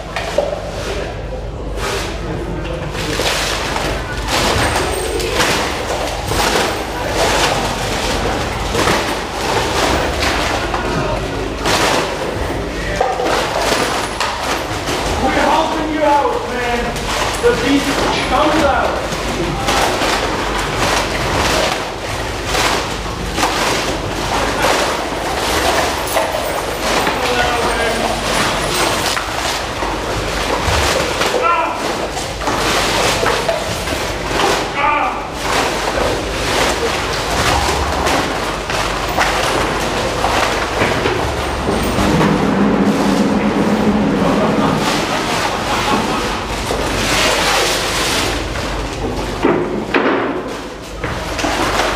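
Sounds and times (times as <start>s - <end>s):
low steady hum: 0.0s - 51.9s
plastic cups crunching when struck: 2.9s - 51.9s.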